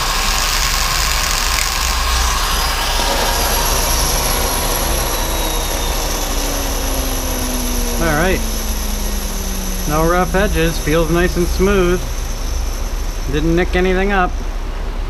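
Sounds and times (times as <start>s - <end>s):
rotary tool motor whining: 0.0s - 14.6s.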